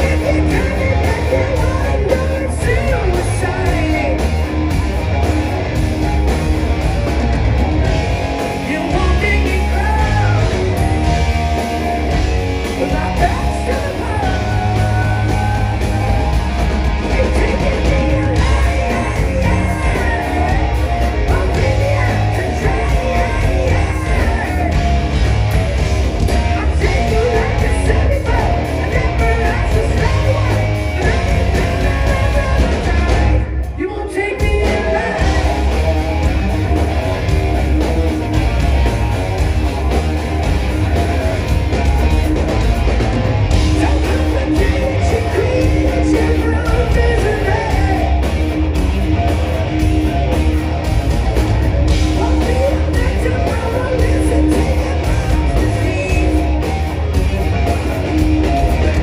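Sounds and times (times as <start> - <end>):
man singing lead vocals: 0.0 - 4.7, 8.4 - 39.0, 39.8 - 48.6, 51.7 - 59.0
bass guitar: 0.0 - 59.0
drums: 0.0 - 59.0
electric guitars: 0.0 - 59.0.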